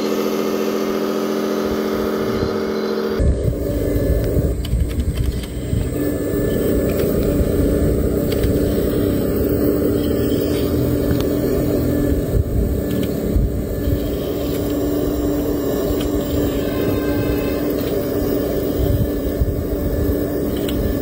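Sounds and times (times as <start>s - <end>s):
electric excavator motor drone: 0.0s - 21.0s.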